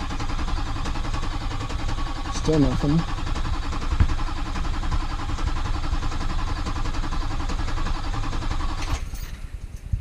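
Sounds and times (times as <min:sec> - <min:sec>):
diesel engine cranking on starter: 0:00.0 - 0:09.9.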